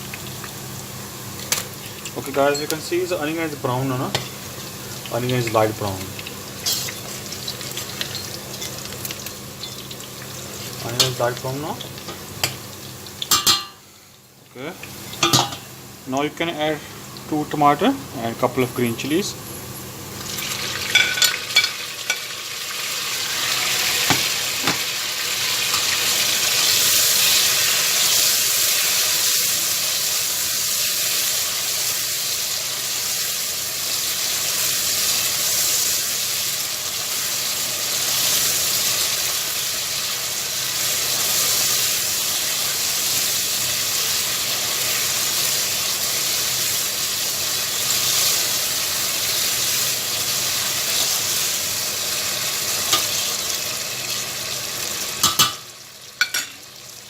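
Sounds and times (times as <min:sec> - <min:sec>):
vegetables sizzling in hot oil: 0:00.0 - 0:57.0.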